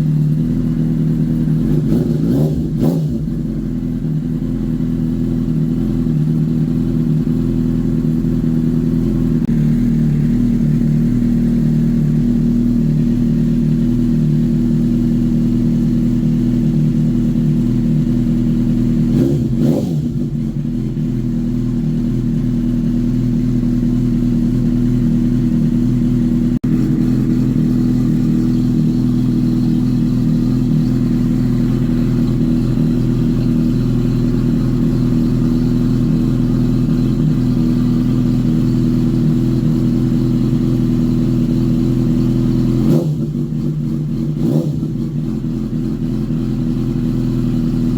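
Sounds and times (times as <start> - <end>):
motorcycle engine idling: 0.0 - 47.9.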